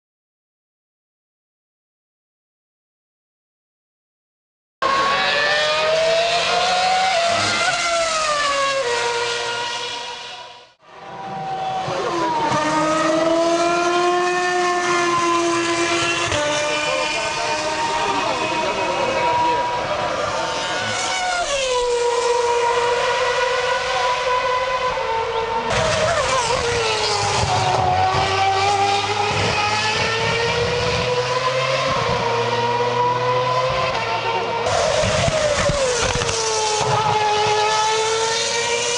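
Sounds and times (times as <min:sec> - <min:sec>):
race car engine high revs: 0:04.8 - 0:38.9.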